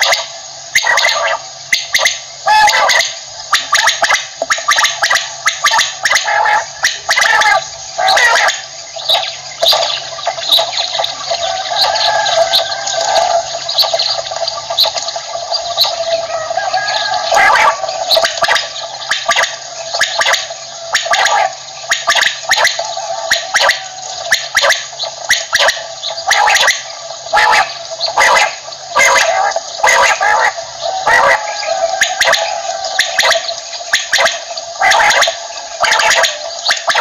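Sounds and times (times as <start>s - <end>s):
quail calling: 0.0s - 37.0s.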